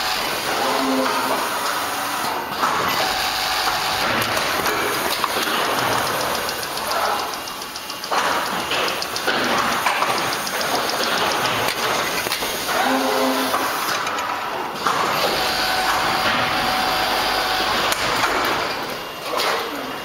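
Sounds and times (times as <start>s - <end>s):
sewing machine clatter and hiss: 0.0s - 19.9s.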